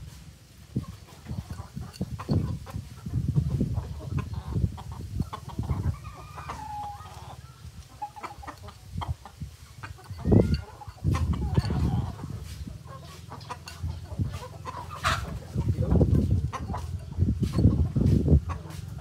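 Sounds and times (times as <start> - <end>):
rooster clucking: 0.8 - 19.0.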